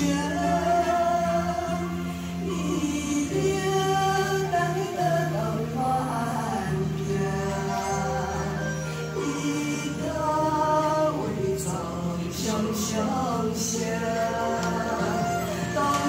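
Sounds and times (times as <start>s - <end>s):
instrumental accompaniment: 0.0s - 16.0s
women singing: 0.0s - 16.0s.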